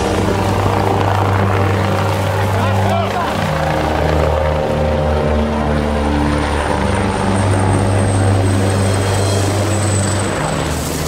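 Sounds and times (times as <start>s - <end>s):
helicopter rotor beat: 0.0s - 11.0s
turbine whine: 0.0s - 11.0s.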